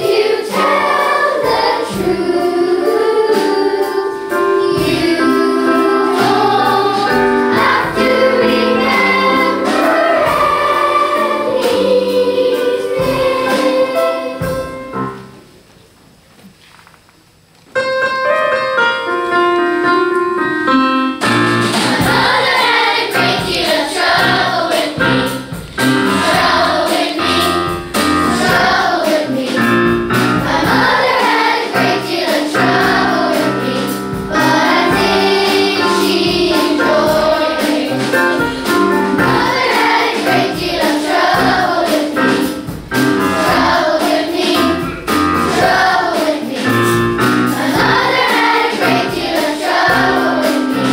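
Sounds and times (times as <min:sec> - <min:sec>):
children's choir singing: 0:00.0 - 0:15.4, 0:21.6 - 0:50.9
instrumental accompaniment: 0:00.0 - 0:15.6, 0:17.7 - 0:50.9.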